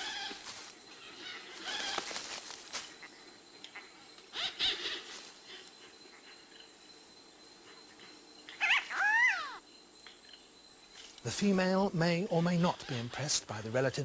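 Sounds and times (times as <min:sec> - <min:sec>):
birds squawking calls: 0:00.0 - 0:06.8, 0:07.6 - 0:10.4, 0:12.1 - 0:13.8.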